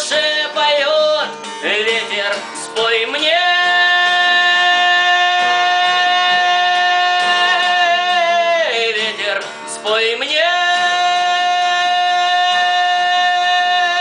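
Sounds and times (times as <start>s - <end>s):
guitar accompaniment: 0.0s - 14.0s.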